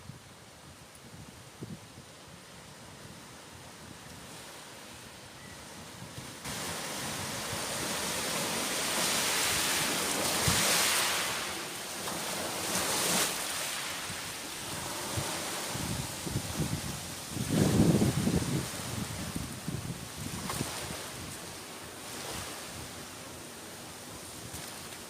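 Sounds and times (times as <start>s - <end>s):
strong wind: 0.0s - 24.9s.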